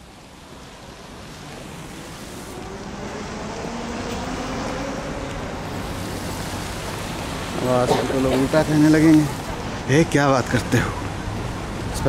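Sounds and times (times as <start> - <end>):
passing cars rushing: 0.2 - 12.0.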